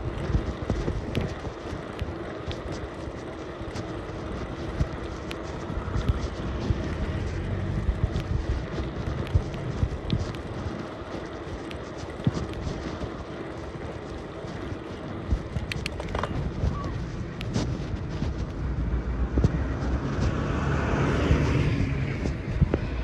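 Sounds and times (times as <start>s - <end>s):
bicycle rattling clicks and knocks: 0.0s - 20.3s, 21.4s - 23.0s
bicycle tyres rumbling: 0.0s - 23.0s
wind on microphone: 0.0s - 23.0s.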